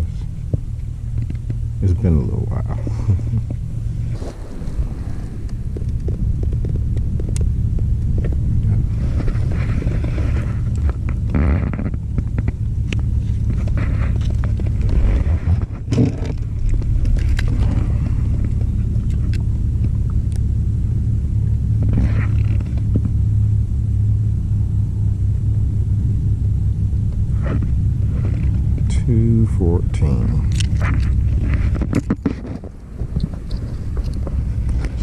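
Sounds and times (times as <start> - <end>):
low rumble: 0.0 - 35.0.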